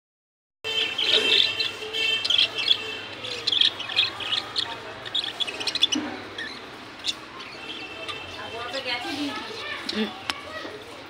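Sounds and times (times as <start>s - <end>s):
budgerigars chirping: 0.7s - 10.2s.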